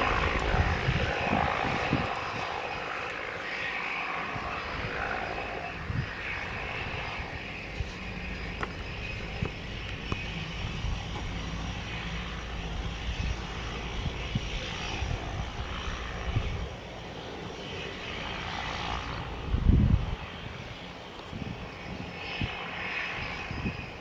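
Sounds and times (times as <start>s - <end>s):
turboprop engine running: 0.0s - 24.0s.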